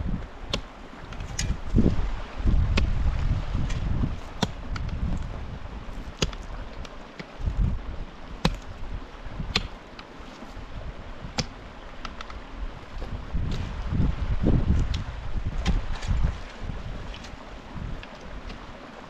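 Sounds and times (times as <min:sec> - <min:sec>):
wind buffeting microphone: 0:00.0 - 0:09.8, 0:10.6 - 0:18.7.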